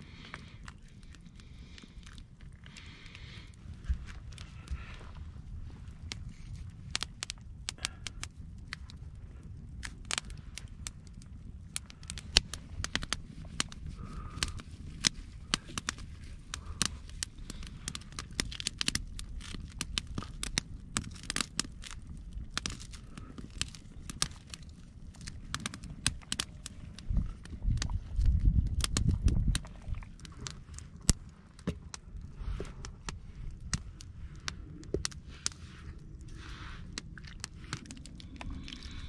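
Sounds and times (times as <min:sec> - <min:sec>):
campfire crackling and popping: 0:00.0 - 0:39.0
low steady rumble: 0:00.0 - 0:39.0.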